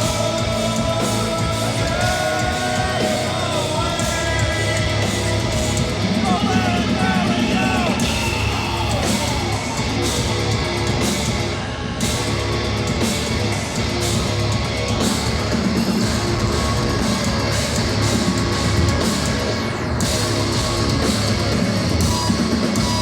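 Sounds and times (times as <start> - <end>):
live hard rock band: 0.0 - 23.0.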